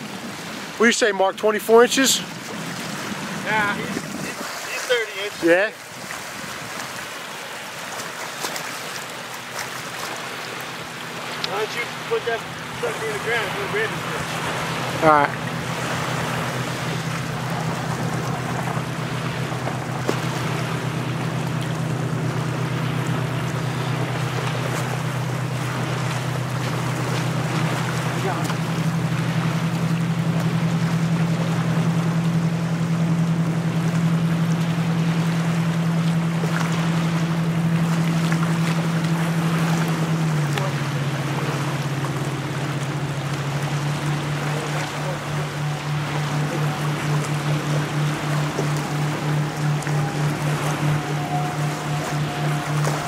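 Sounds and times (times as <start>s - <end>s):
motorboat engine humming: 0.0s - 53.0s
small surf breaking: 0.0s - 53.0s
wind: 0.0s - 53.0s.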